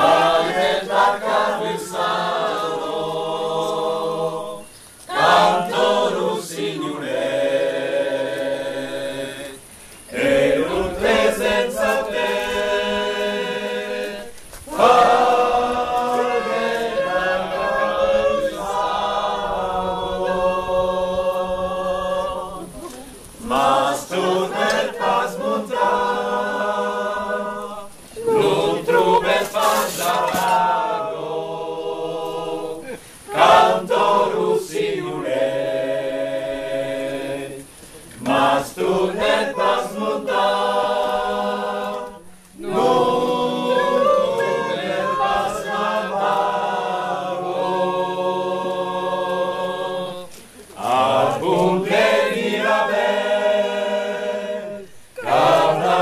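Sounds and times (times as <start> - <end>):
group singing a cappella: 0.0 - 56.0.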